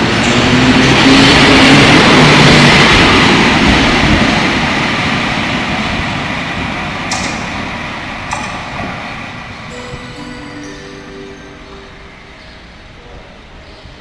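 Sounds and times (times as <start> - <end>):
electric locomotive passing: 0.0 - 14.0.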